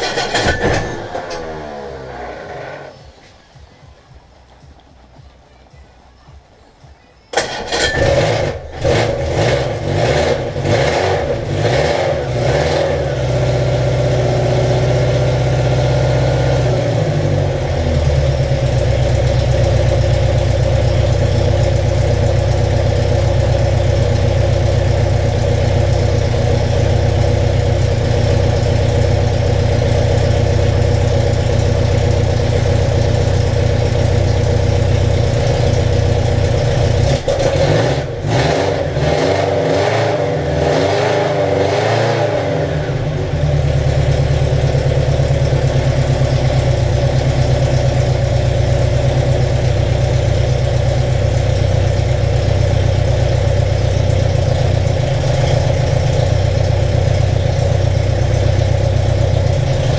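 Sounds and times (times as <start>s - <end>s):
car engine running: 0.0s - 5.2s, 7.4s - 59.9s.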